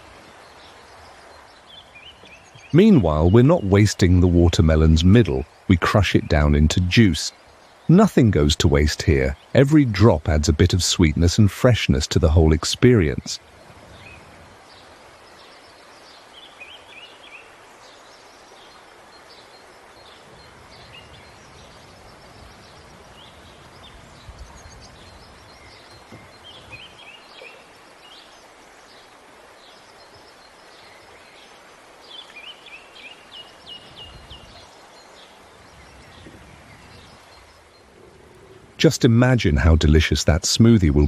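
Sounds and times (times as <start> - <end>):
outdoor hiss: 0.0 - 41.0
small birds chirping: 0.0 - 41.0.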